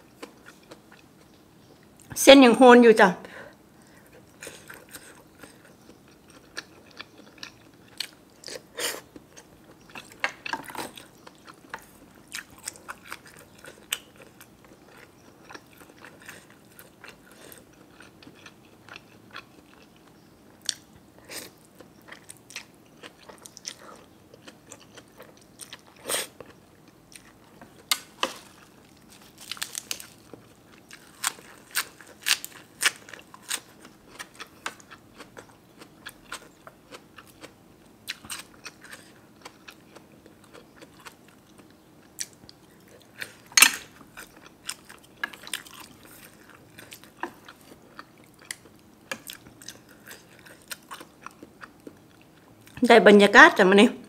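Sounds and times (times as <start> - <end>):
person chewing crunchy food: 0.0 - 2.1, 3.8 - 52.8.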